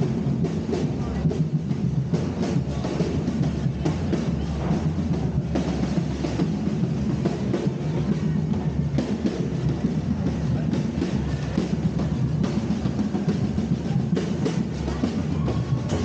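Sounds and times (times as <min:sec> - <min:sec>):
drum band playing: 0:00.0 - 0:16.0.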